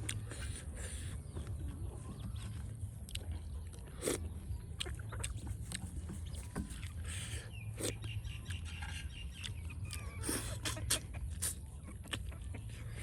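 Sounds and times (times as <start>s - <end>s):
bird chirps and clicks: 1.2s - 7.0s, 7.8s - 12.6s.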